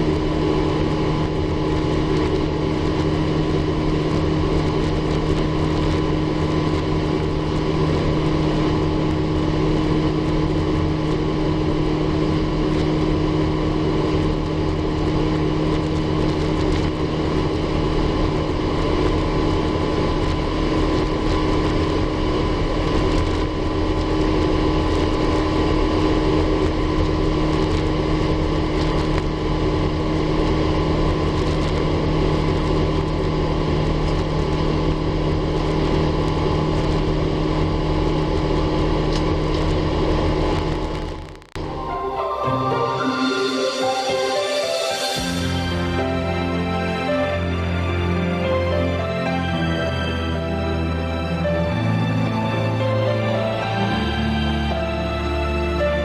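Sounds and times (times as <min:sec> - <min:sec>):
jet engines droning in cabin: 0:00.0 - 0:56.0.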